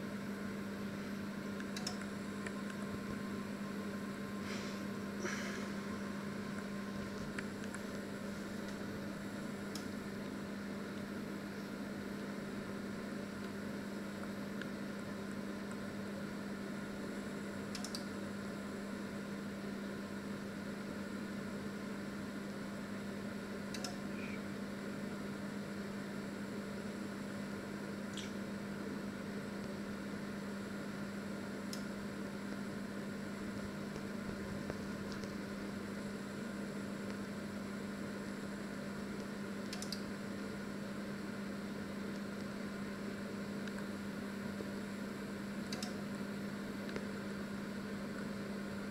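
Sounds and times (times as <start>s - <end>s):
microwave oven humming: 0.0s - 48.9s.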